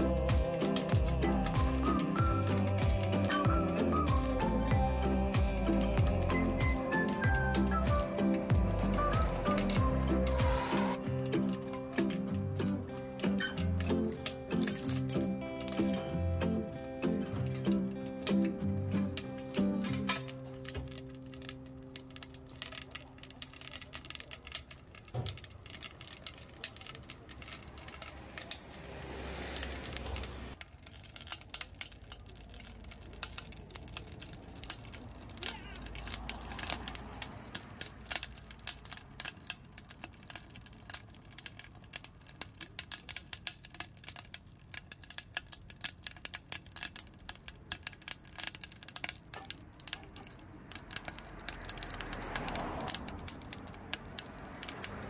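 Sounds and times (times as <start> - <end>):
road traffic noise: 0.0 - 55.0
wood fire crackling and popping: 0.0 - 55.0.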